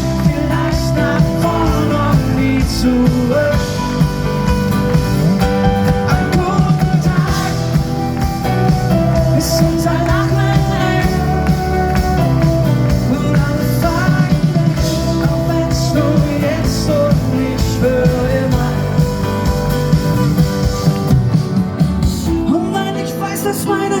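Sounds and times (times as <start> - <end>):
person singing: 0.0 - 4.6, 5.2 - 19.7, 22.0 - 24.0
acoustic guitar: 0.0 - 24.0
bass: 0.0 - 24.0
drums: 0.0 - 24.0.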